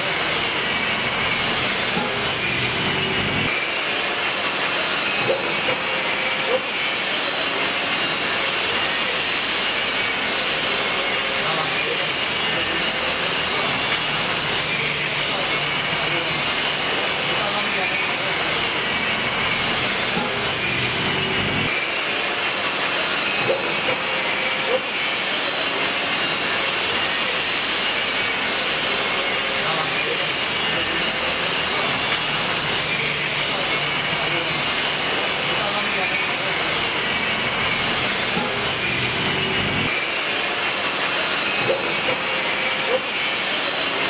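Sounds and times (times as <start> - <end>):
packing machine hissing: 0.0 - 44.0.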